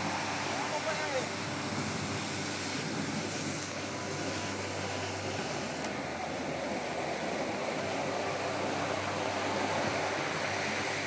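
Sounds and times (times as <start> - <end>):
surf on a beach: 0.0 - 11.0
wind: 0.0 - 11.0.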